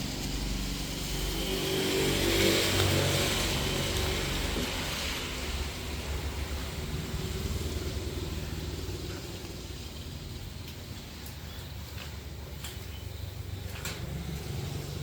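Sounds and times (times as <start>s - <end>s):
engine fluttering rumble: 0.0s - 15.0s.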